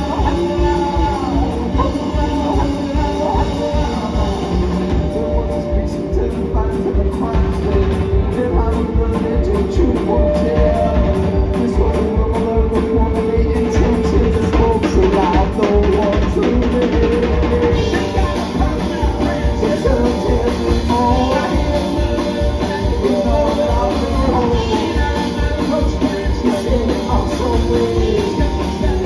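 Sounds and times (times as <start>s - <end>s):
drum kit steady beat: 0.0s - 29.0s
live rock band playing: 0.0s - 29.0s.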